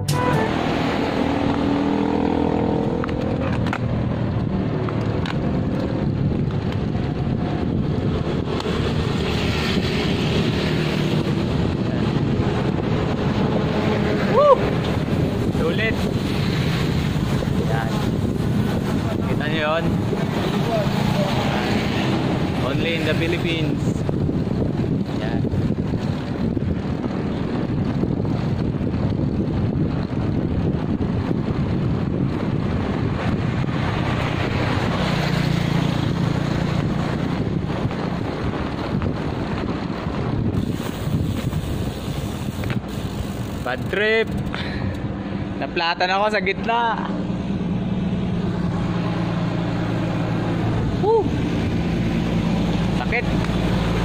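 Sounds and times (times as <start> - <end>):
road and traffic noise: 0.0 - 54.0
wind buffeting microphone: 0.0 - 54.0.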